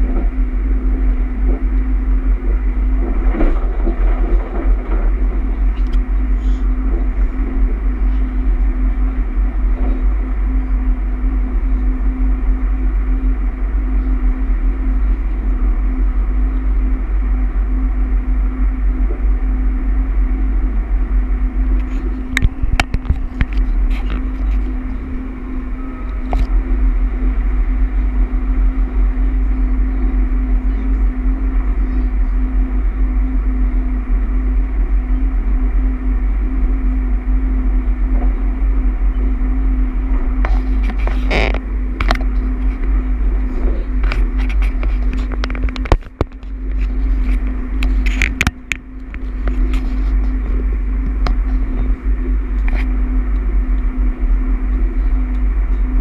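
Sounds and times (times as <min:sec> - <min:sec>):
constant hum: 0:00.0 - 0:56.0
train rumble: 0:00.0 - 0:56.0.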